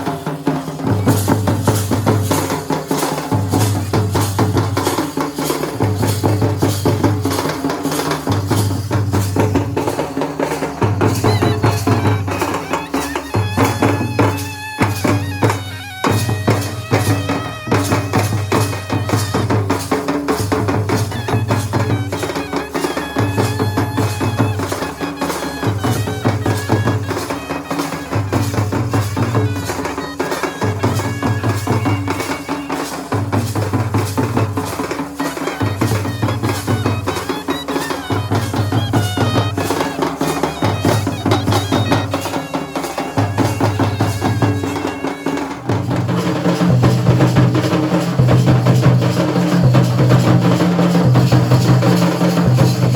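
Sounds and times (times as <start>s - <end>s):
folk drumming: 0.0s - 52.9s
reed wind instrument melody: 0.0s - 52.9s.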